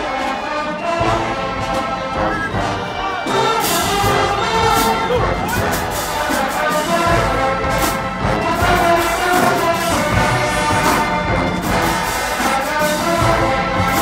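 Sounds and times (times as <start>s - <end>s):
brass holding chords: 0.0s - 14.0s
drum line hits: 0.0s - 14.0s.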